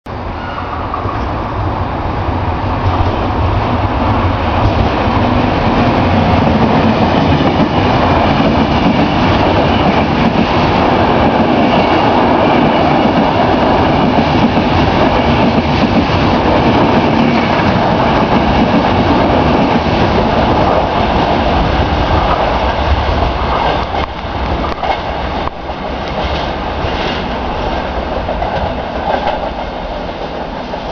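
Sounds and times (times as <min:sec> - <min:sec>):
electric train passing: 0:00.1 - 0:30.9.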